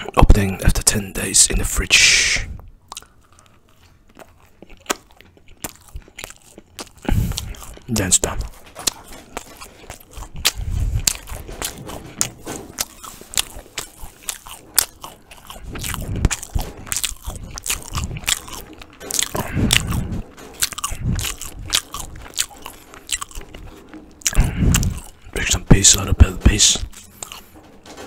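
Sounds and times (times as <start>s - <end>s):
crunching crusty bread: 2.8s - 28.0s.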